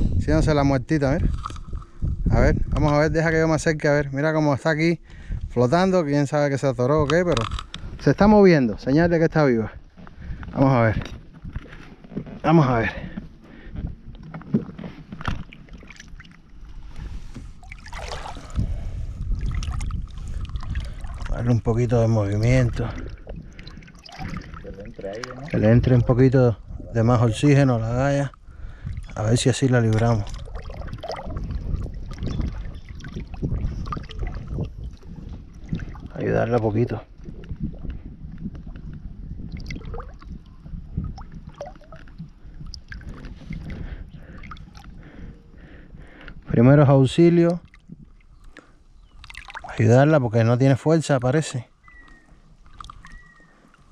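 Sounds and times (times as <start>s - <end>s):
low wind rumble on microphone: 0.0s - 50.5s, 51.8s - 53.9s
water splashing and sloshing: 9.8s - 46.5s, 47.4s - 53.9s.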